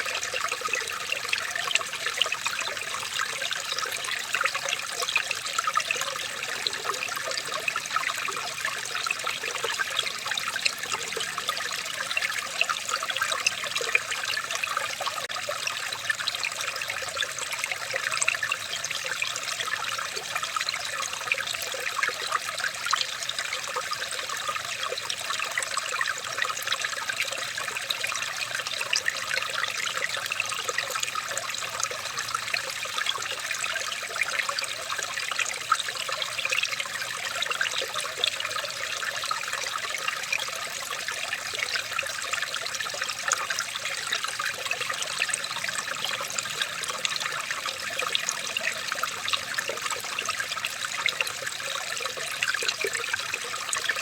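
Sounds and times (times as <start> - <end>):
water trickling and babbling: 0.0 - 54.0.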